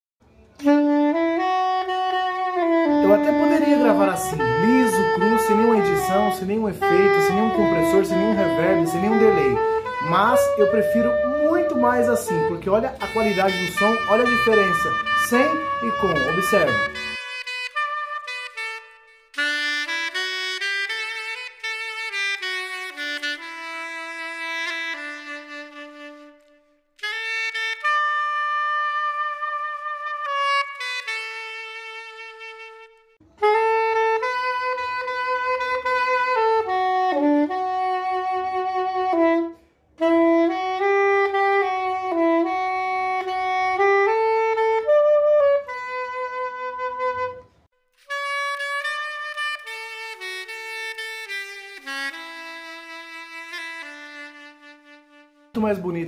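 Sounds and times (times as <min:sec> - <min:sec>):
soprano saxophone playing melody: 0:00.6 - 0:56.0.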